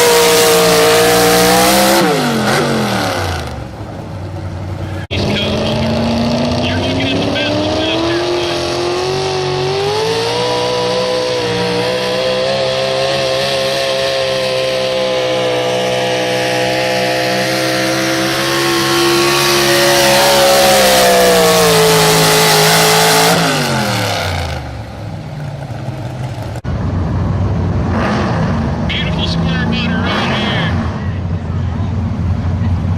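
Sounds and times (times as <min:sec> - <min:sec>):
truck engine at high revs: 0:00.0 - 0:32.9.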